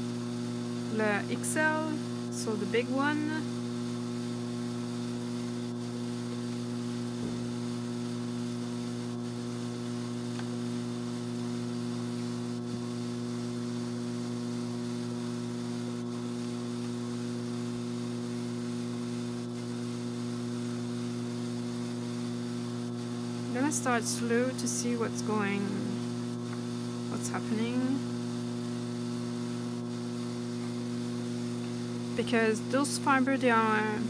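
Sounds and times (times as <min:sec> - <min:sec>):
drum carder motor humming: 0:00.0 - 0:34.0.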